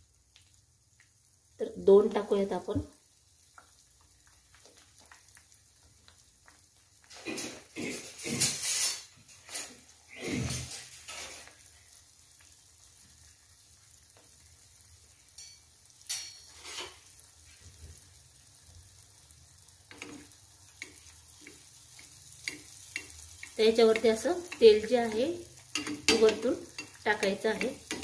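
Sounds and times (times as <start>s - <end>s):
cakes sizzling in hot oil: 0.0s - 28.0s.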